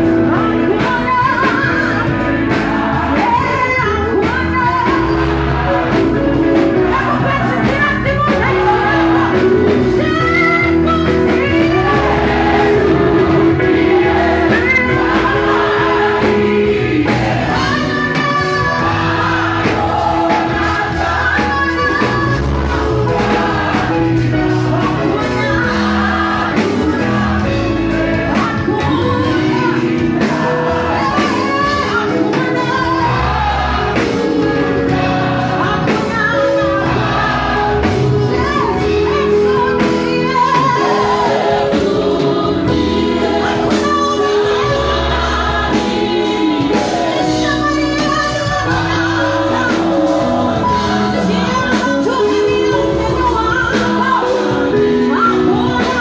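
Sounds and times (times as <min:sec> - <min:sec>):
woman singing into a microphone: 0:00.0 - 0:12.2, 0:17.5 - 0:19.1, 0:19.8 - 0:25.9, 0:26.6 - 0:56.0
amplified band with bass and drums: 0:00.0 - 0:56.0
congregation singing: 0:00.0 - 0:56.0.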